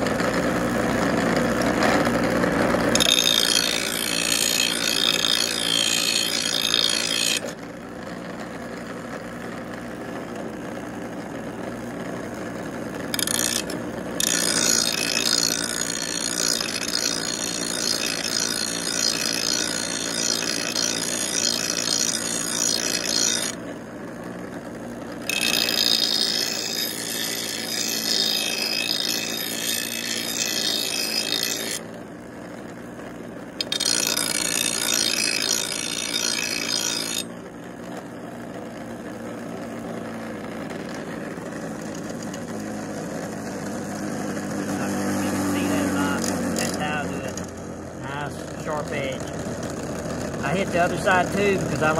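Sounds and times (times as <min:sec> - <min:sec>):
bench grinder motor hum: 0:00.0 - 0:51.9
blade grinding on wheel: 0:00.0 - 0:51.9.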